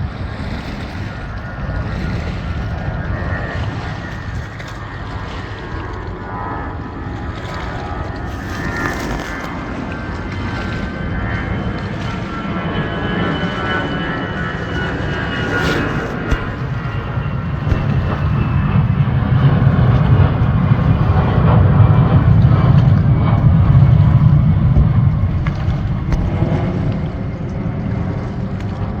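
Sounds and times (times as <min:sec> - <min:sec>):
jet airplane passing overhead: 0:00.0 - 0:29.0.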